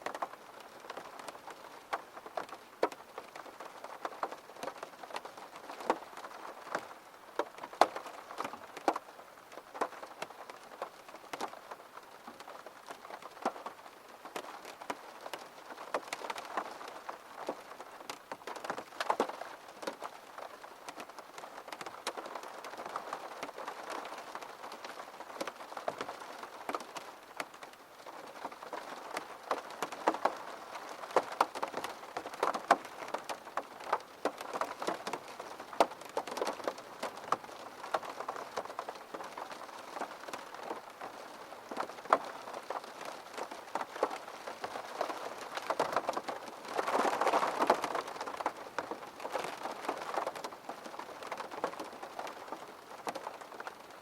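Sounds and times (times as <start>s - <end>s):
rain hiss: 0.0s - 54.0s
raindrops ticking on a surface: 0.0s - 54.0s.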